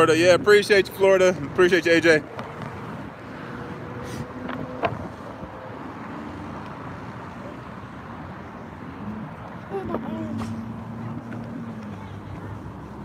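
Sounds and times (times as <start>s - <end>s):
cars passing on street: 0.0s - 13.0s.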